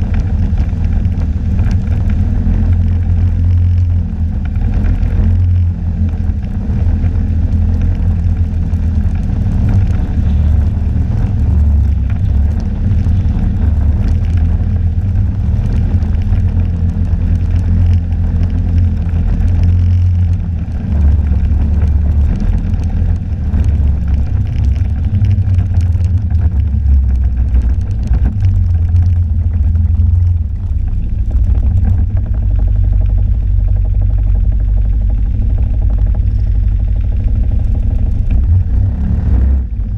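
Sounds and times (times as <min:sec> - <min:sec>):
snowmobile engine running: 0:00.0 - 0:39.9
wind rumble on microphone: 0:00.0 - 0:39.9.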